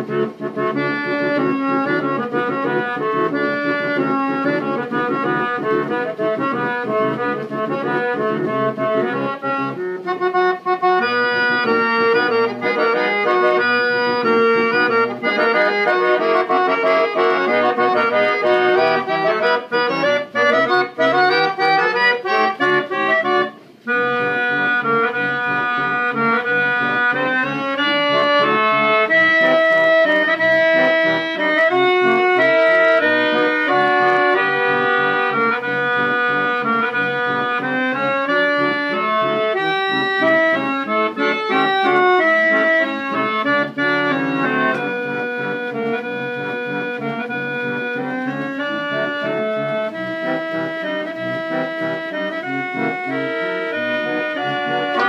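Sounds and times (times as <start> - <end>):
reed organ playing a march: 0.0 - 55.0.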